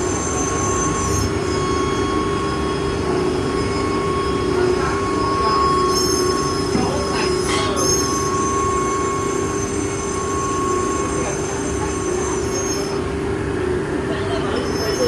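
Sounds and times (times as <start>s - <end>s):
router machine whining: 0.0s - 13.0s
higher-pitched whine: 0.0s - 13.1s.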